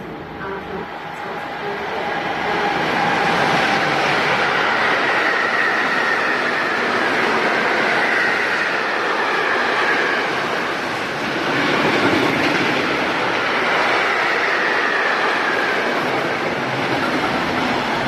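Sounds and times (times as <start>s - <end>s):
freight train wheels rumbling on rail: 0.0s - 18.0s.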